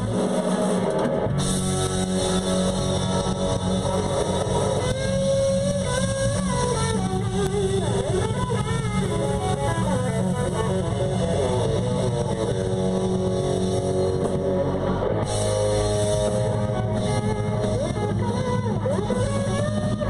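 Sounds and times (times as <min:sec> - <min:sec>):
bass line: 0:00.0 - 0:20.0
live band guitar: 0:00.0 - 0:20.0.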